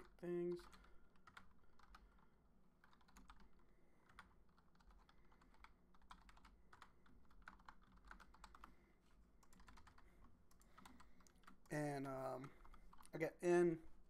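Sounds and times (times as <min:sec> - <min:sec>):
faint typing on keyboard: 0:00.0 - 0:14.0.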